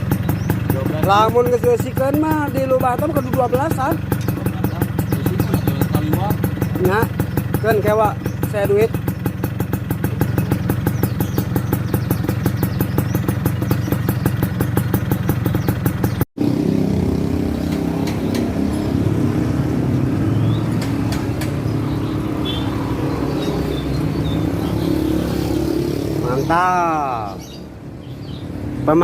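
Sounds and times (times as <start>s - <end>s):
two-stroke motorcycle engine popping: 0.0s - 29.0s.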